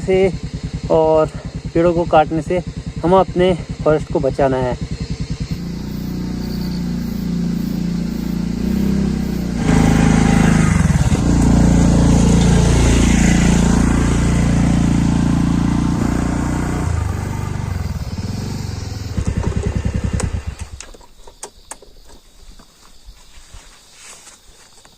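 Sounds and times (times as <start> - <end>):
motorcycle engine revving: 0.0 - 21.1.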